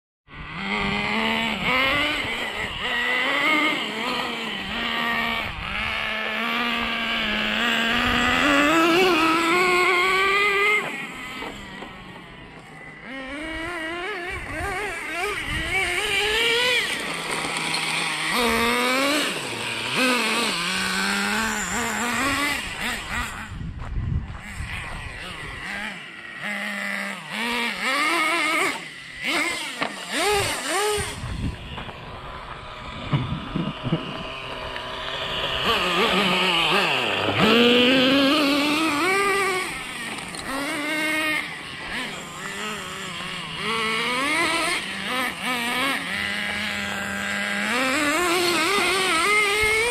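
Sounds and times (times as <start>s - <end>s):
toy truck motor revving: 0.3s - 23.7s, 24.3s - 49.9s
tyres on gravel: 1.3s - 49.9s.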